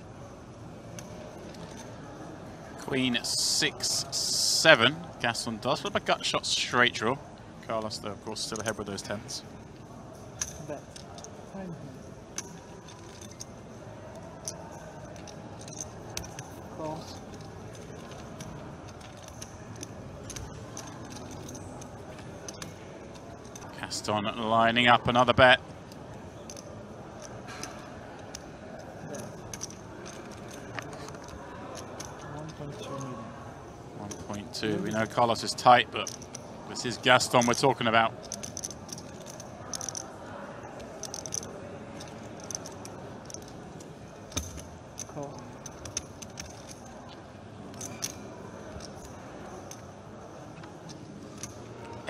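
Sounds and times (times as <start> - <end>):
low room noise: 0.0 - 52.0.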